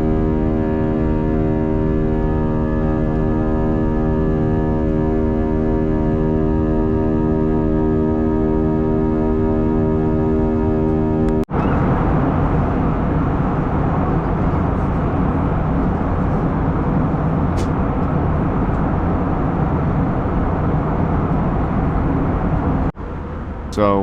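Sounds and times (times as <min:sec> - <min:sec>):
jet engine cabin noise: 0:00.0 - 0:24.0
low hum: 0:00.0 - 0:24.0.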